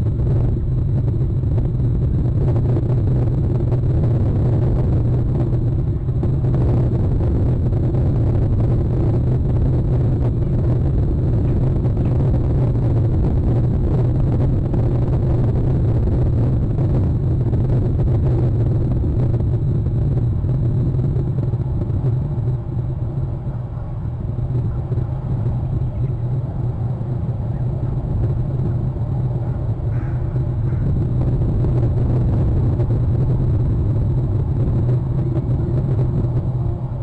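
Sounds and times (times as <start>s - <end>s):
loud low rumble: 0.0s - 37.0s.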